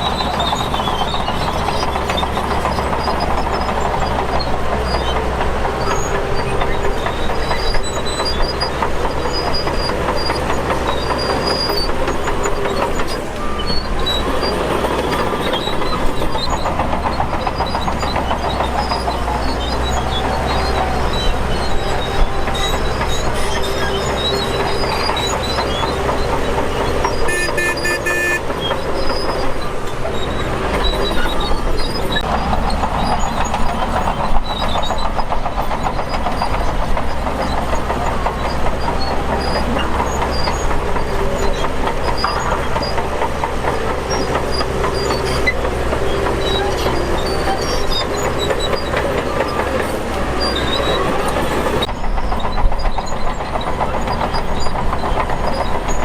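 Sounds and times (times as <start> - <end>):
diesel engine running: 0.0 - 56.0
steel tracks clattering: 0.0 - 56.0.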